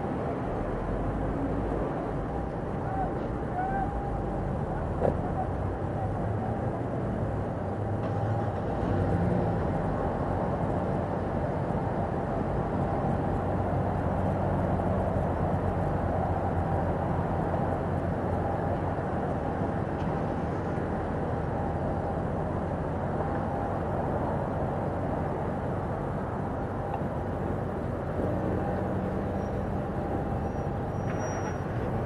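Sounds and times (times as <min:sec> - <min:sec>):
low vehicle rumble: 0:00.0 - 0:32.0.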